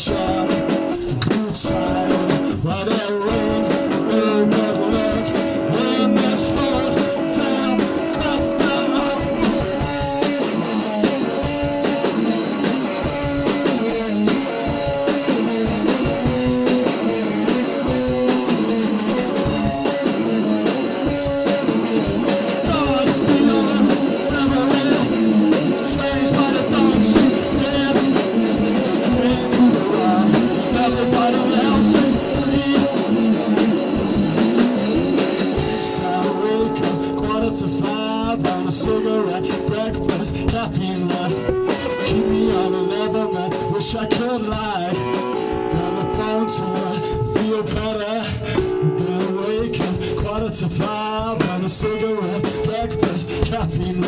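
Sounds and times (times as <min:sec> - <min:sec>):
out of tune blues-rock band: 0:00.0 - 0:54.0.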